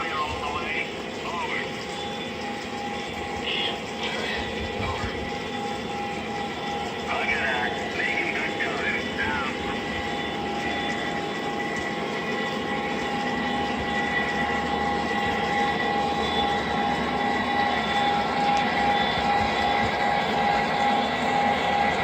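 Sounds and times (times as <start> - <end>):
model train high whine: 0.0 - 22.0.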